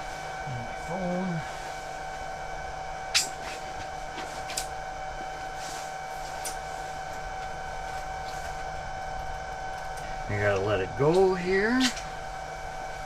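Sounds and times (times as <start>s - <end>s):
motor humming with whine: 0.0s - 13.0s.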